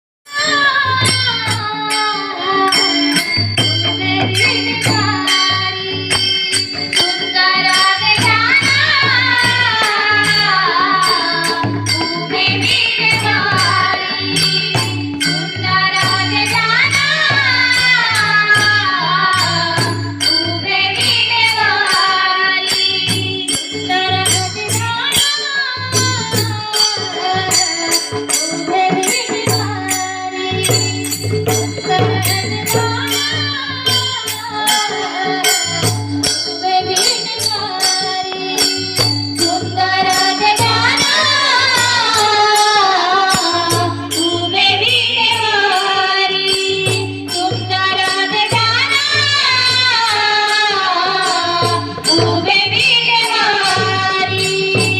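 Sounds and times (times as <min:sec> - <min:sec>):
steady drum beat: 0:00.3 - 0:54.9.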